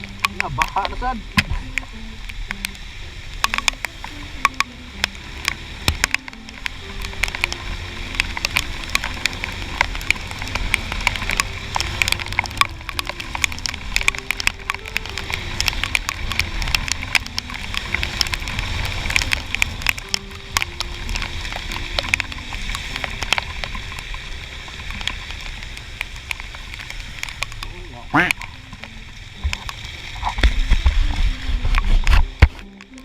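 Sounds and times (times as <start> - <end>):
raindrops ticking on camera case: 0.0 - 33.0
wind and road noise: 0.0 - 33.0.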